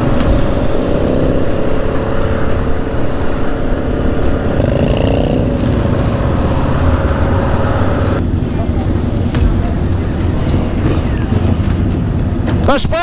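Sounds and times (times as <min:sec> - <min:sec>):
single engine drone: 0:00.0 - 0:12.5
motorcycle engines rumbling: 0:00.0 - 0:13.0.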